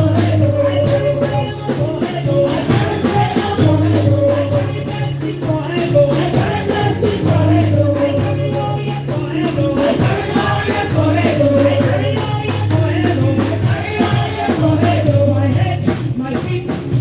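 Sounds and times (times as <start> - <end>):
bass line: 0.0 - 17.0
jingling hand percussion: 0.0 - 17.0.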